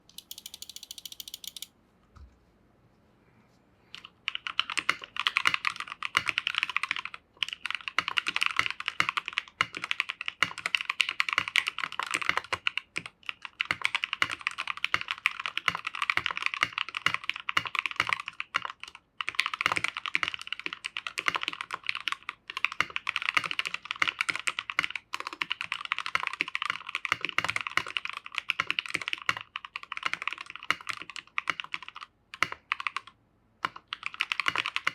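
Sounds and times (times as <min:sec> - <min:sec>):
fast typing on mechanical keyboard: 0:00.2 - 0:01.7, 0:04.0 - 0:34.9.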